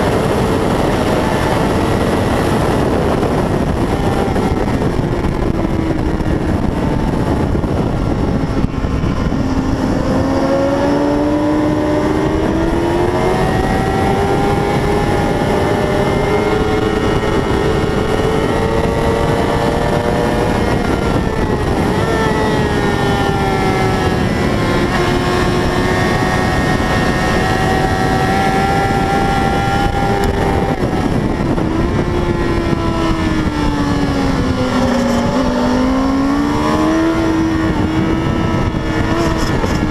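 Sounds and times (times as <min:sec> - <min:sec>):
heavy rushing noise: 0:00.0 - 0:39.9
motorcycle engine at high revs: 0:00.0 - 0:39.9.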